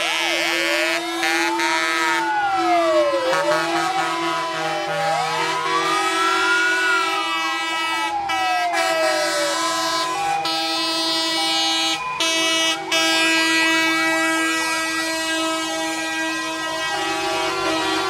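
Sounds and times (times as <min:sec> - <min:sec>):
fast yelp siren: 0:00.0 - 0:18.0
fire engine horn tones: 0:00.0 - 0:18.0
fire engine siren winding down: 0:00.0 - 0:18.0.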